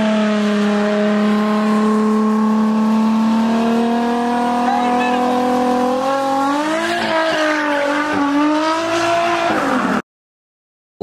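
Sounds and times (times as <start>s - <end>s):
car engine revving high: 0.0s - 10.0s.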